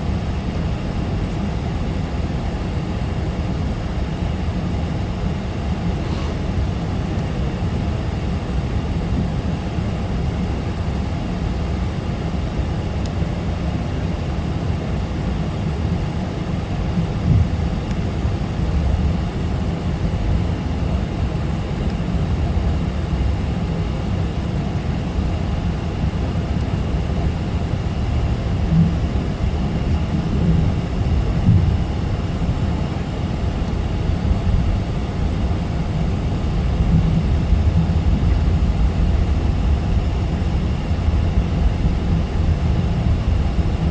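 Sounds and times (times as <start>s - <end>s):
airliner engines rumbling while taxiing: 0.0s - 43.9s.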